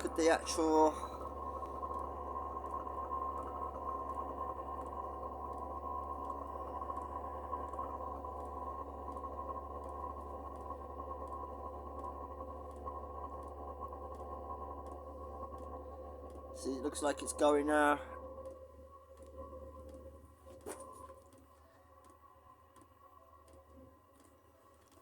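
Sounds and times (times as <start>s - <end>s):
air heater fan whine: 0.0s - 21.7s.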